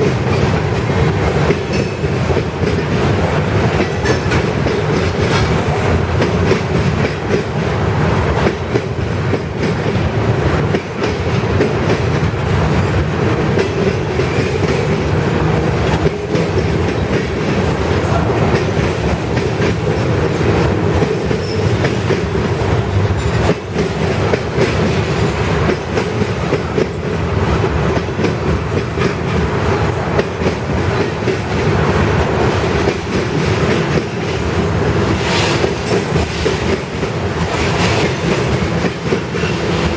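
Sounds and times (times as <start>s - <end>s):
freight train rumble: 0.0s - 39.9s
train wheels clacking on rail joints: 0.0s - 39.9s.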